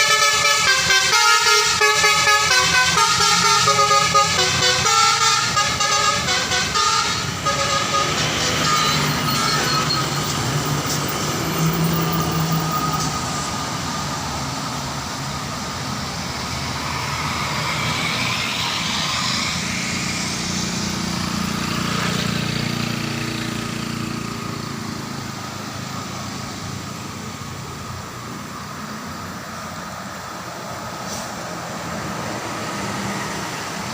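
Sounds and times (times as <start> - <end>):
heavy vehicle passing by: 0.0 - 33.9.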